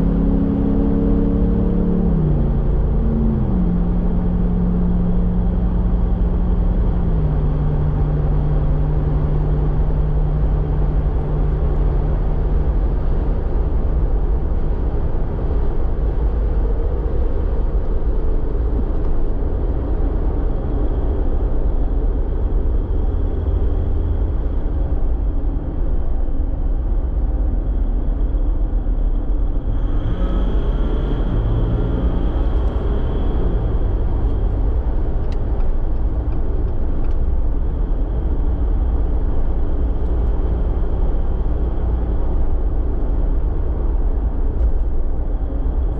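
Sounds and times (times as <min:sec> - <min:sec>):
engine and road rumble: 0:00.0 - 0:45.9.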